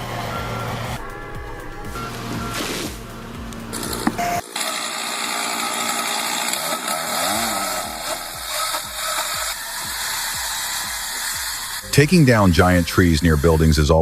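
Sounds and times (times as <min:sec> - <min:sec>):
chainsaw running: 0:01.9 - 0:14.0.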